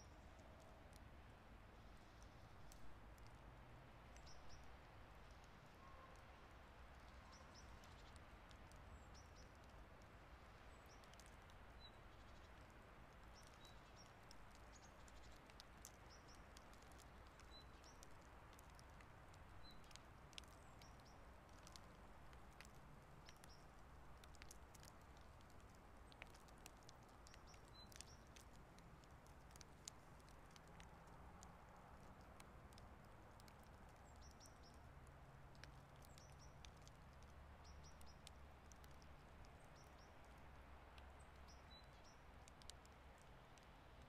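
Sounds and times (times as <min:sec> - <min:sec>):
soft ticks: 0:01.9 - 0:03.4, 0:04.1 - 0:43.8.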